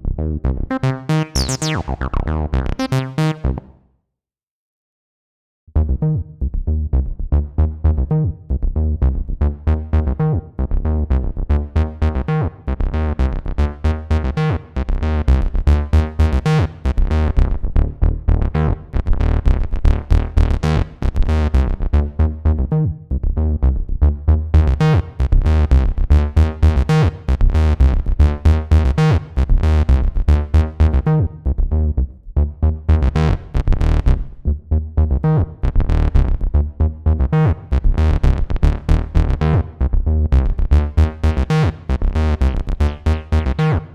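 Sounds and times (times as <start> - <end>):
acid bassline synthesizer: 0.0 - 3.8, 5.8 - 43.9.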